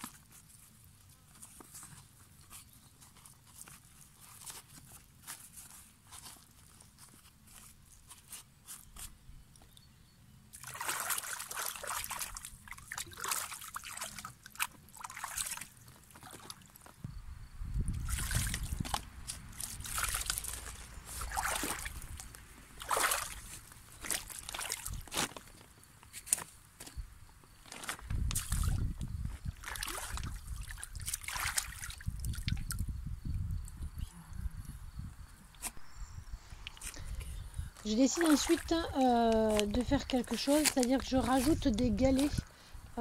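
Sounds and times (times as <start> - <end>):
water sloshing around wading boots: 0.0 - 9.8, 10.5 - 17.0, 17.9 - 26.9, 27.5 - 32.8, 36.5 - 43.0.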